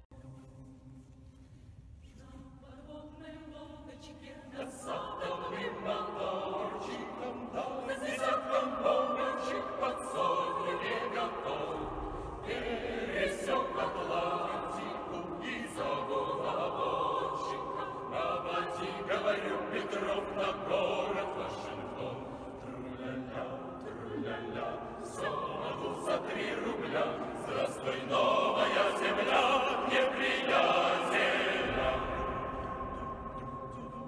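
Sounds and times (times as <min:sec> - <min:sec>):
mixed choir singing: 0:02.2 - 0:34.0.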